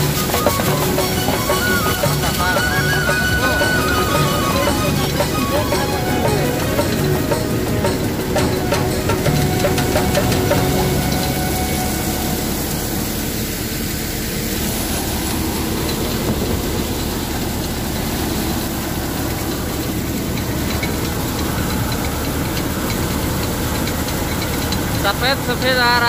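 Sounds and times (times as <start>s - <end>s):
thresher machine running: 0.0s - 26.0s
tractor diesel engine: 0.0s - 26.0s.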